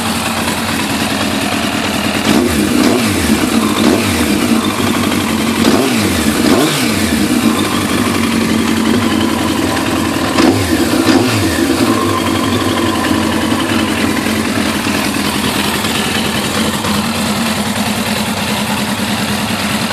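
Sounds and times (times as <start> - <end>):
motorcycle engine idling: 0.0 - 19.9
motorcycle engine throttle blips: 0.0 - 19.9.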